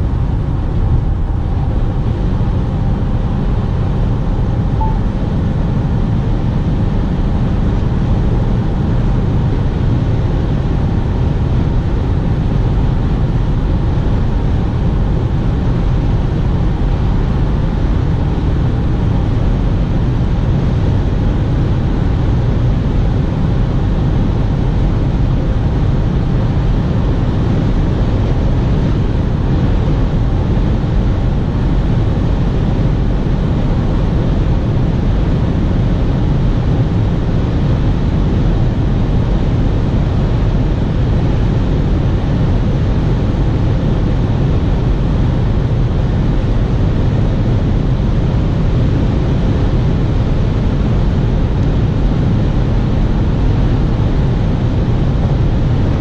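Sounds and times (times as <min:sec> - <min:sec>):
in-cabin road noise: 0:00.0 - 0:56.0.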